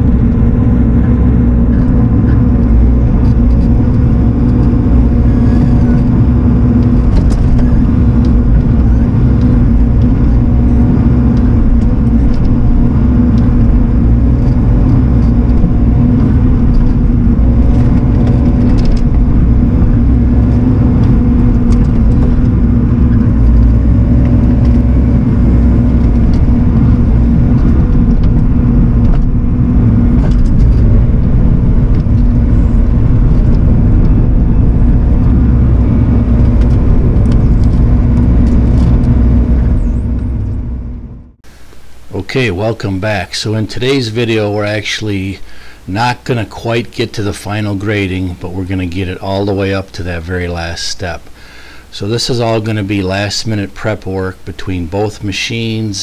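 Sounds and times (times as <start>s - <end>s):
excavator diesel engine and hydraulics: 0.0s - 56.0s.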